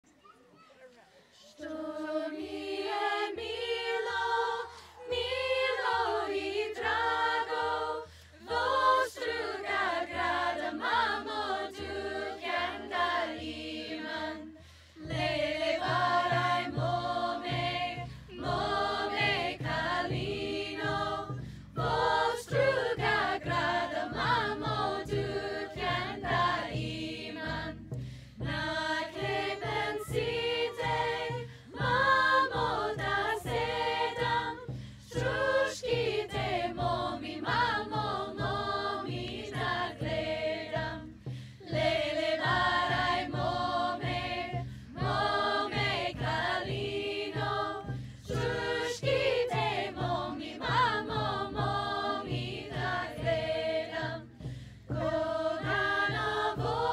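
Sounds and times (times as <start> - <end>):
group of voices singing: 1.6 - 56.9
low steady drum beat: 2.0 - 56.9.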